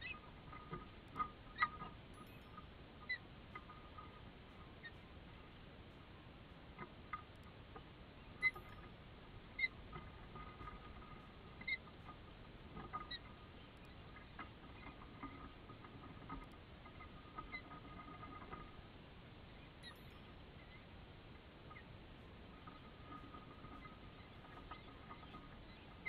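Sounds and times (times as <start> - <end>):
osprey chirps: 0.0 - 18.8, 19.5 - 21.0, 21.6 - 26.0
faint steady hiss: 0.0 - 26.0.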